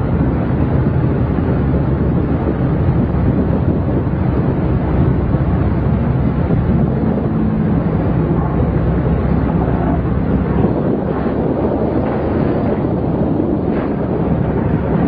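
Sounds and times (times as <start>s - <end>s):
motor vehicle rumble: 0.0s - 15.0s
wind buffeting microphone: 0.0s - 15.0s.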